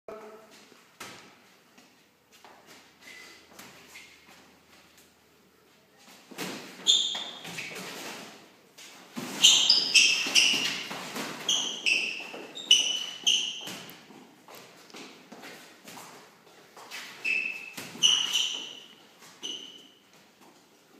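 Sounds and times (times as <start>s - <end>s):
sneakers squeaking on floor: 2.3s - 4.9s, 6.1s - 20.6s.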